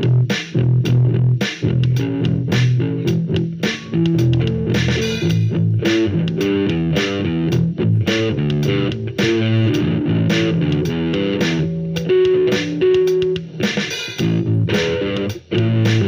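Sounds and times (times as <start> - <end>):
electric bass plucked notes: 0.0 - 16.0.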